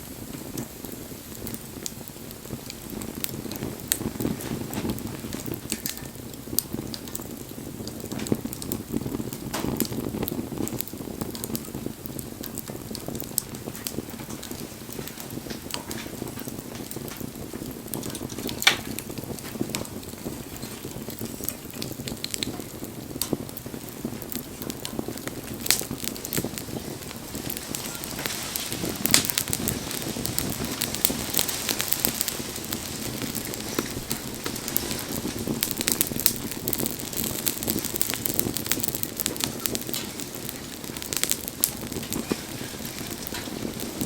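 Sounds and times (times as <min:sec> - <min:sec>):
bonfire crackling: 0:00.0 - 0:44.0
fire pops: 0:00.0 - 0:44.0.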